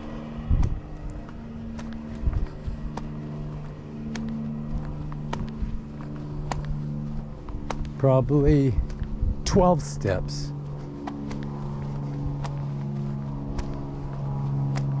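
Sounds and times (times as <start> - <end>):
footsteps going down steps: 0.0 - 15.0
low motor hum: 0.0 - 15.0.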